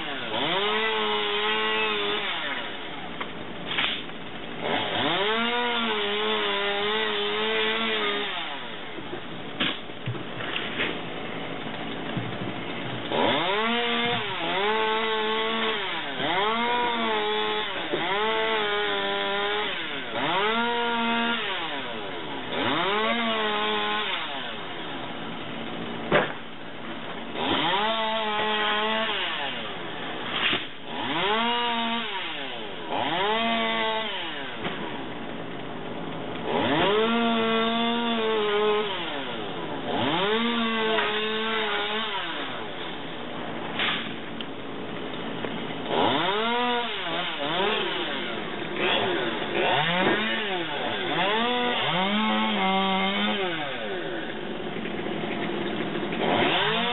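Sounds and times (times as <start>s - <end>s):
chainsaw revving: 0.0s - 8.9s, 12.8s - 25.2s, 27.2s - 35.0s, 36.3s - 44.3s, 45.5s - 56.9s.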